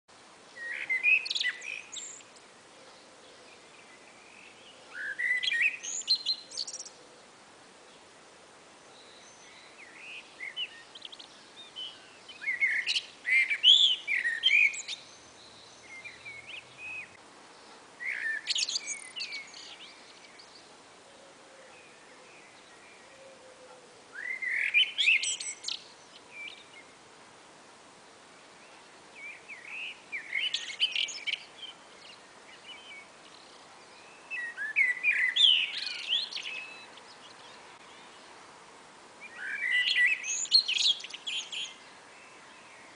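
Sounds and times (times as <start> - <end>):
blackbirds singing: 0.5 - 7.1, 8.8 - 27.0, 28.5 - 38.3, 39.2 - 42.9.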